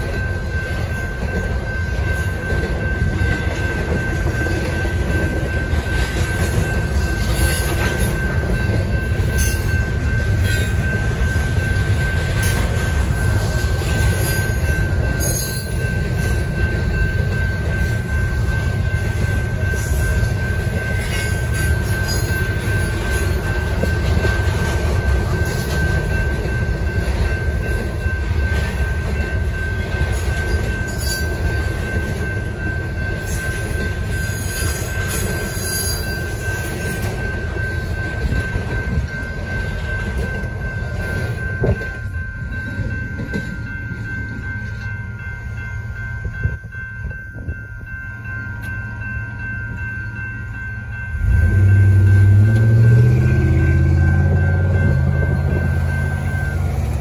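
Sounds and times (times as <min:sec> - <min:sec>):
crossing warning bell ringing: 0:00.0 - 0:57.0
freight train wheels rumbling: 0:00.0 - 0:57.0.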